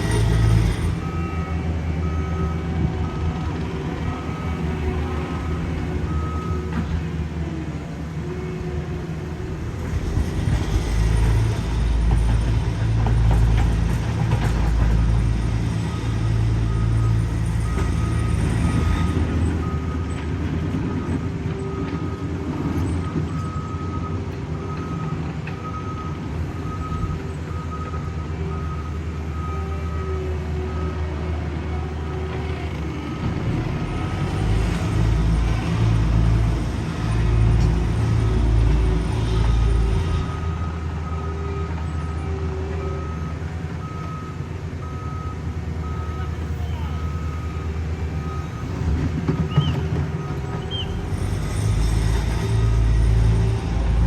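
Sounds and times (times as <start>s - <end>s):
diesel paving machine engine rumble: 0.0s - 54.0s.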